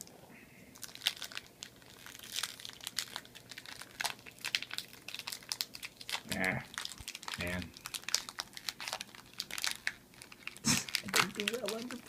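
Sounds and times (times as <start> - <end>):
foil wrapper crinkling: 0.8 - 12.0.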